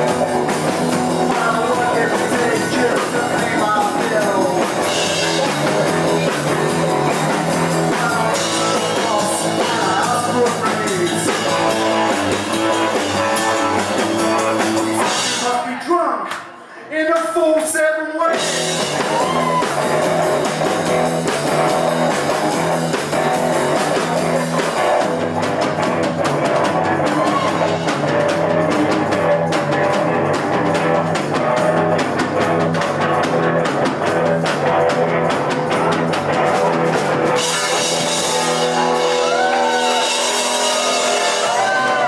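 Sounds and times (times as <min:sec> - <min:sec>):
repeating bass line: 0:00.0 - 0:15.6, 0:18.4 - 0:42.0
live rock band playing: 0:00.0 - 0:15.9, 0:18.3 - 0:42.0
drum beats: 0:00.0 - 0:16.5, 0:18.3 - 0:42.0.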